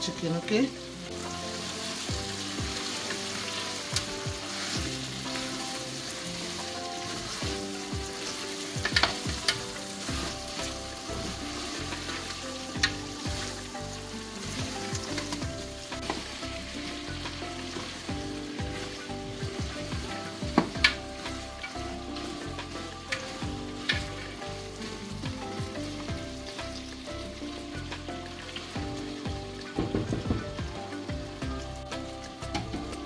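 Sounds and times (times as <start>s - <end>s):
food sizzling in a pot: 0.0s - 33.0s
soft background music: 0.0s - 33.0s.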